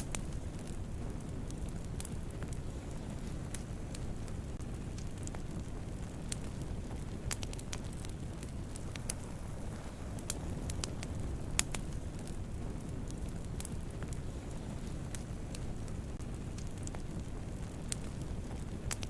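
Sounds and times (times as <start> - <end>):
campfire flames rumbling: 0.0 - 19.0
fire crackles and pops: 0.0 - 19.0.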